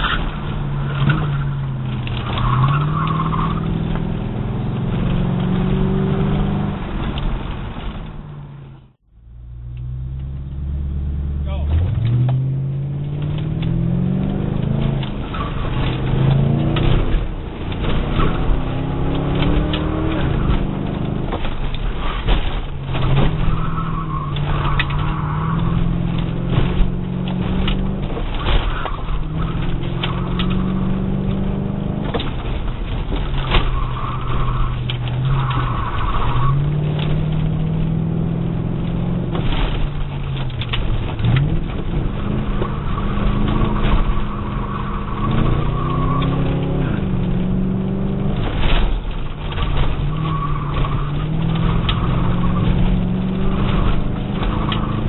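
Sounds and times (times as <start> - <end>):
tire squeal: 0.0 - 4.1, 13.3 - 32.0, 33.1 - 55.0
car engine accelerating: 0.0 - 55.0.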